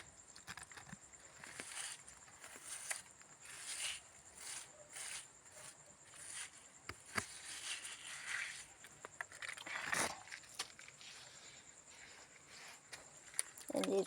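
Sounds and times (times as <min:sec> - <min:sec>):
mortar and bricks scraping: 0:00.4 - 0:13.6.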